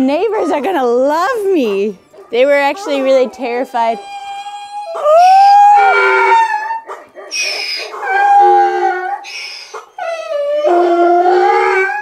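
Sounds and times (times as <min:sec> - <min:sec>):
donkey braying: 0:00.0 - 0:12.0.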